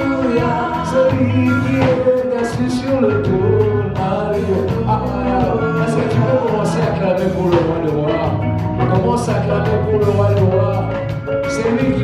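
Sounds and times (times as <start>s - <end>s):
band playing worship music: 0.0s - 12.0s
person singing melody: 0.0s - 12.0s
steady bass line: 0.0s - 12.0s.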